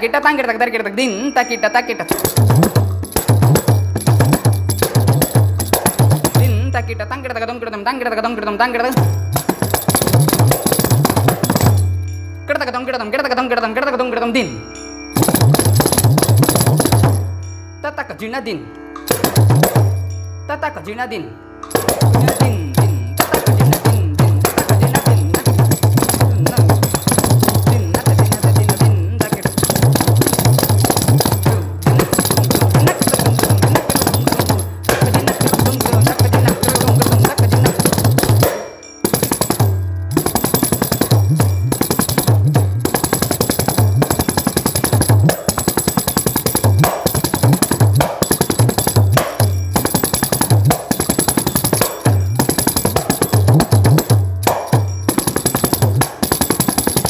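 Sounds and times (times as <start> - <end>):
frame drum with jingles: 1.2 - 6.8, 8.9 - 12.4, 15.0 - 17.6, 19.0 - 20.4, 21.6 - 57.0.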